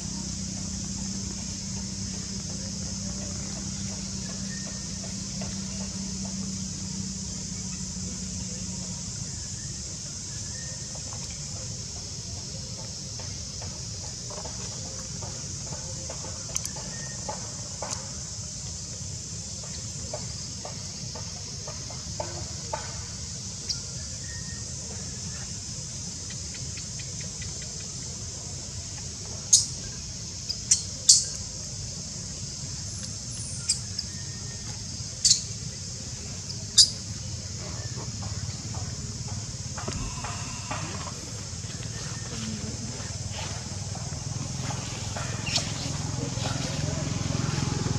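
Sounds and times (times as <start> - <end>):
steady high hiss: 0.0 - 14.4, 16.6 - 47.9.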